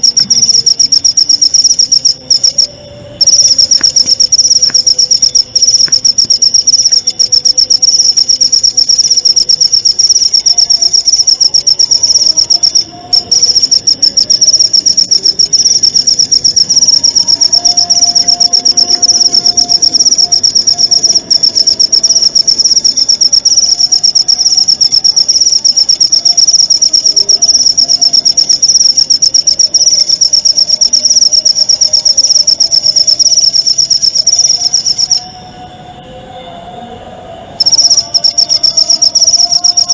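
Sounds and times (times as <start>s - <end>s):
cricket trilling: 0.0s - 35.4s, 37.6s - 39.9s.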